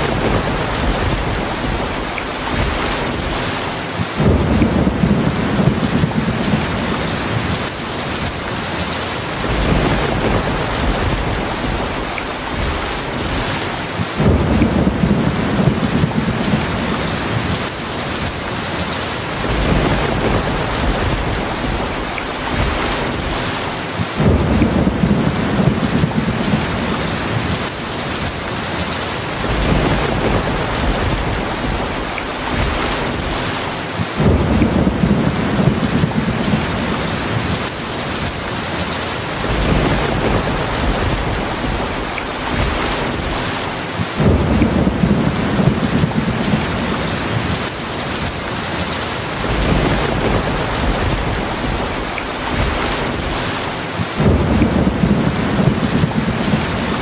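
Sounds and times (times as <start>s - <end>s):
low thunder rumbling: 0.0s - 43.6s, 44.2s - 57.0s
heavy rain: 0.0s - 57.0s.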